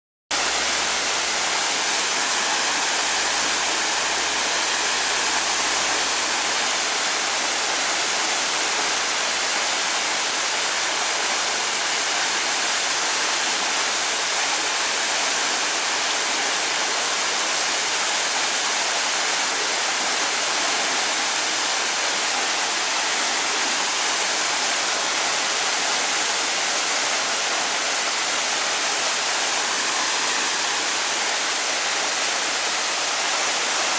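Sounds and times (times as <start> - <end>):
waterfall rushing and splashing: 0.3 - 33.9.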